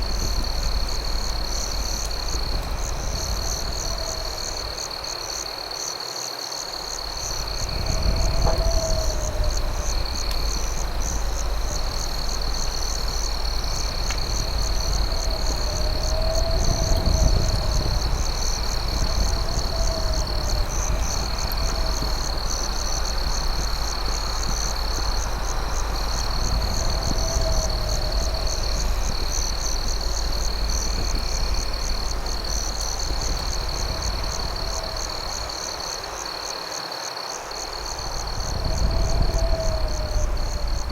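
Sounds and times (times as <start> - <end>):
campfire rumble and crackle: 0.0 - 40.9
crickets trilling: 0.0 - 40.9.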